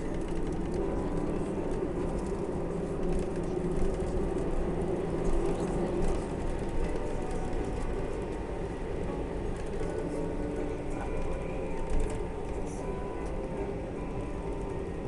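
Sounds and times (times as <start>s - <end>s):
jet engine hum: 0.0s - 15.0s.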